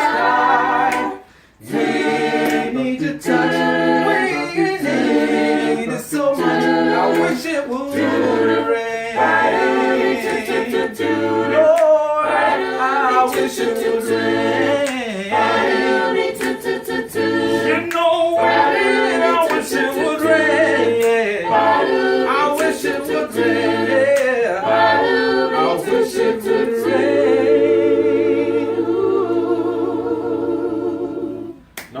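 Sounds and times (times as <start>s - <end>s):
a cappella vocal group singing: 0.0s - 32.0s.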